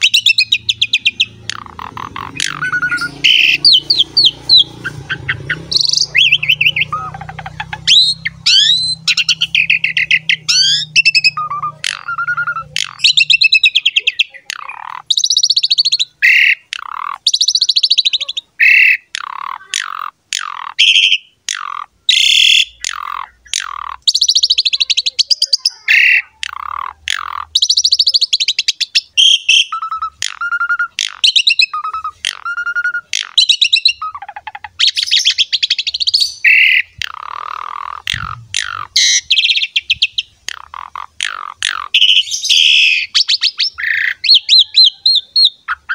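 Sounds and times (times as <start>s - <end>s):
starling singing: 0.0s - 45.9s.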